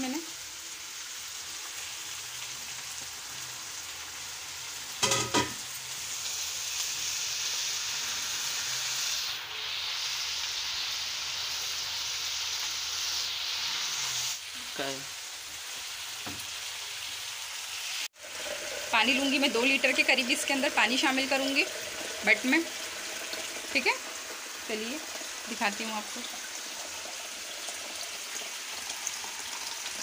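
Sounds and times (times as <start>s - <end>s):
food sizzling in a wok: 0.0s - 30.0s.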